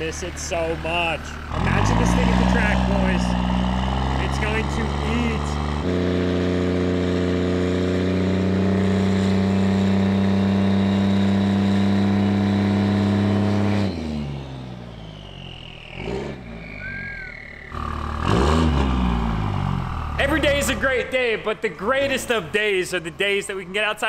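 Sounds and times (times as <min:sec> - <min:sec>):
pickup truck engine running: 0:00.0 - 0:13.7, 0:15.0 - 0:24.0.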